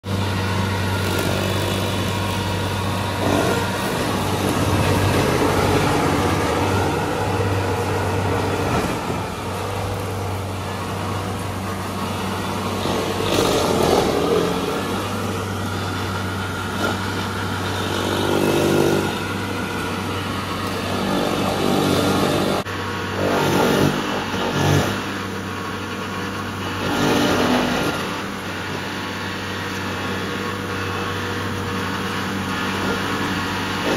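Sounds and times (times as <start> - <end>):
cutter wheel grinding stump: 0.0 - 33.9
stump grinder engine running: 0.0 - 33.9.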